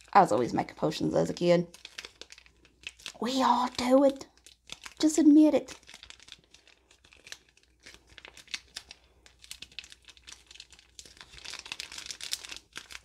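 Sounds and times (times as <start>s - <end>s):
plastic sachet crinkling: 0.0s - 13.0s.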